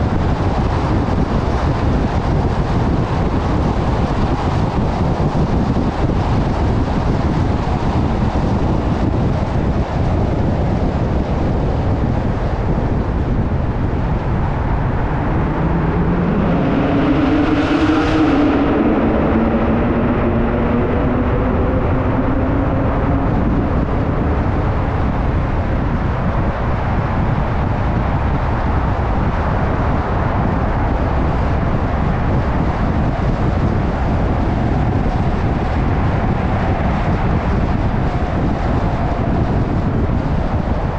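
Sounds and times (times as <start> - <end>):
tyre and wind road noise: 0.0 - 40.9.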